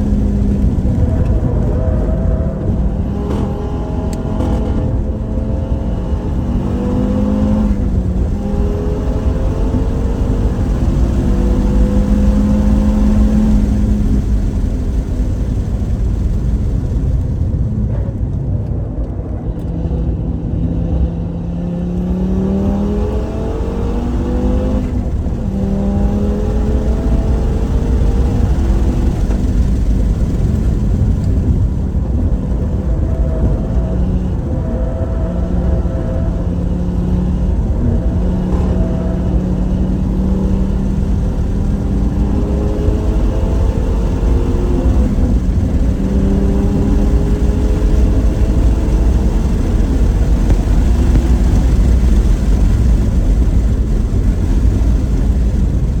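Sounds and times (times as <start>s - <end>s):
car engine revving: 0.0s - 56.0s
road and wind rumble: 0.0s - 56.0s.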